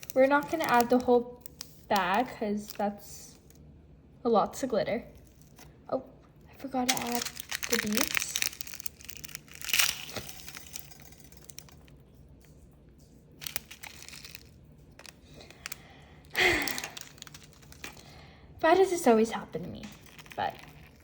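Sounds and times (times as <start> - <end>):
plastic packet crinkling and tearing: 0.0 - 3.6, 5.0 - 5.8, 6.6 - 18.2, 19.4 - 21.0.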